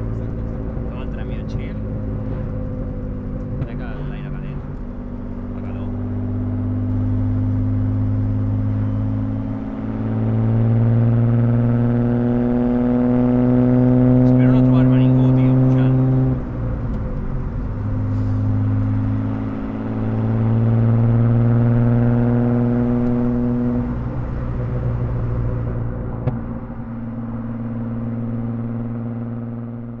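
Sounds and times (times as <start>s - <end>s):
car engine with loud exhaust: 0.0s - 30.0s.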